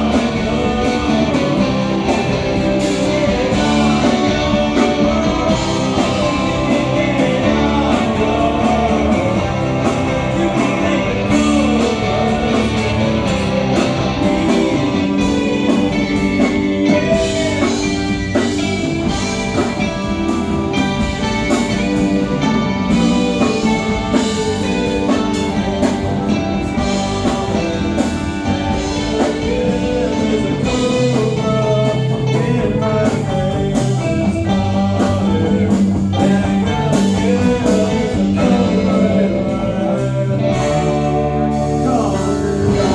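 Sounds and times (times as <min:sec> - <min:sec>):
electric guitar: 0:00.0 - 0:42.9
live rock band playing: 0:00.0 - 0:42.9.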